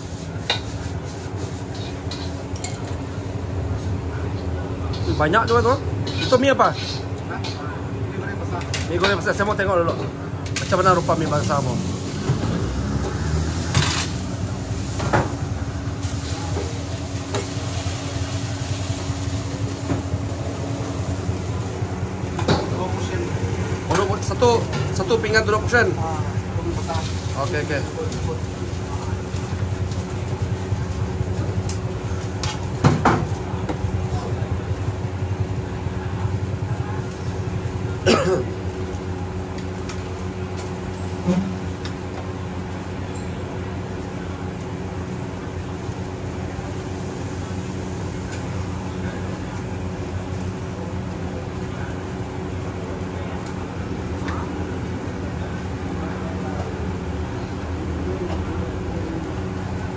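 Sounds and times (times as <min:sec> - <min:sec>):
gas wok burner roaring: 0:00.0 - 0:59.9
kitchen equipment drone: 0:00.0 - 0:59.9.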